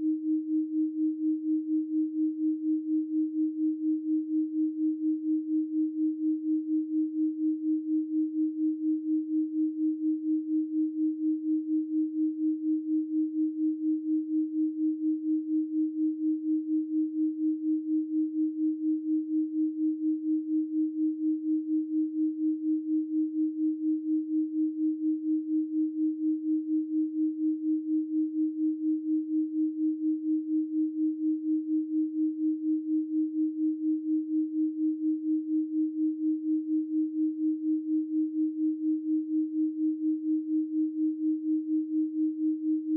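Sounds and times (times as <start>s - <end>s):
pulsing pure sine tone: 0.0s - 42.9s.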